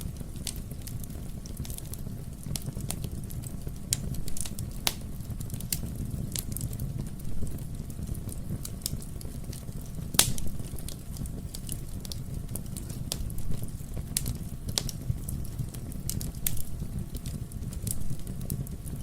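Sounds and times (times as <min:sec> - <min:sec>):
fire crackling and popping: 0:00.0 - 0:19.0
low rumble of burning logs: 0:00.0 - 0:19.0.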